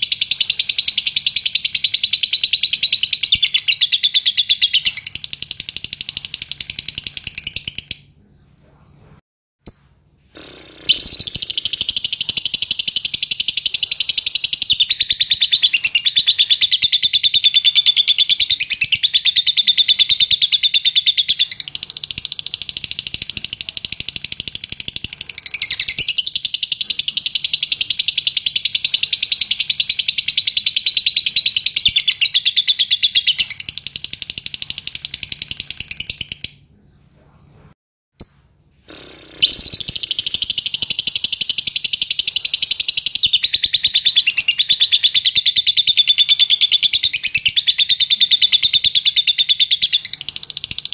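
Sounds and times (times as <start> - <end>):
lovebird chattering trill: 0.0 - 8.0, 9.7 - 36.6, 38.2 - 50.9.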